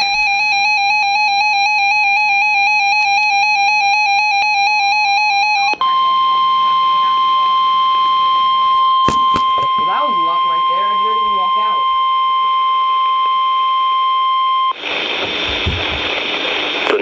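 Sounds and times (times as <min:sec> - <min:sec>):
steady warning alarm tone: 0:00.0 - 0:16.3.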